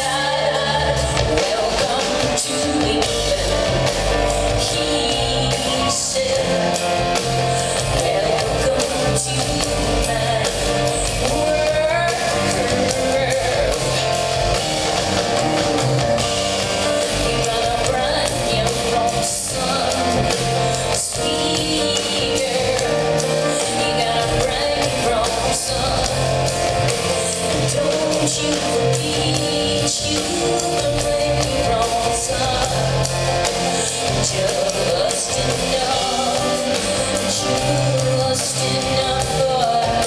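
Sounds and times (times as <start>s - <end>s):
rock band playing live: 0.0s - 40.0s
woman singing: 0.0s - 40.0s.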